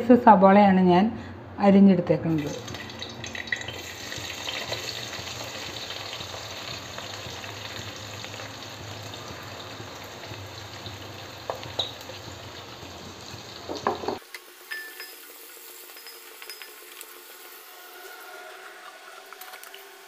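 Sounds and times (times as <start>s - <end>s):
onions sizzling in a pan: 2.5s - 20.0s.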